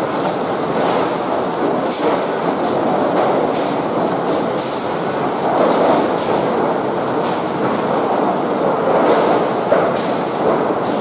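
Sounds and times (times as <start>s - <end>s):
conveyor machinery rattling: 0.0s - 11.0s.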